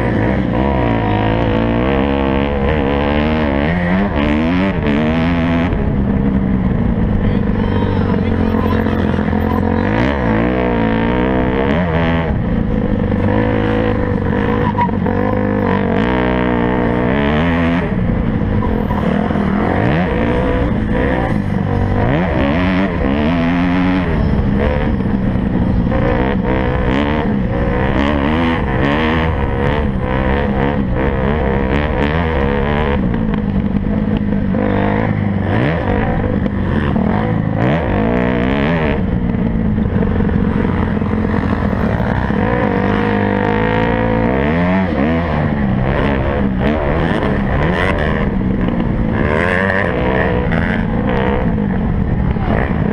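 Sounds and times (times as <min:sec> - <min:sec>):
motorcycle engines racing: 0:00.0 - 0:52.9.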